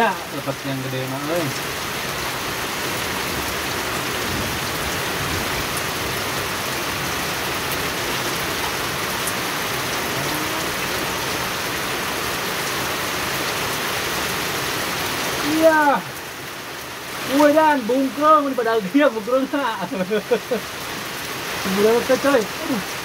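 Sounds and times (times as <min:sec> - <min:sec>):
rain falling on water and stone: 0:00.0 - 0:23.0.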